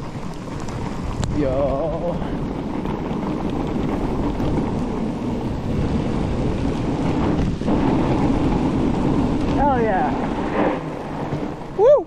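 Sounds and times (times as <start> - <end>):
bike tyres rumbling on snow: 0.0 - 12.0
wind buffeting microphone: 0.0 - 12.0.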